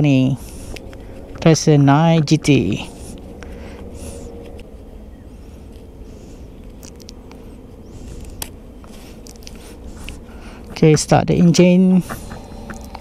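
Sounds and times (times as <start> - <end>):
gloves rustling: 0.4 - 12.9.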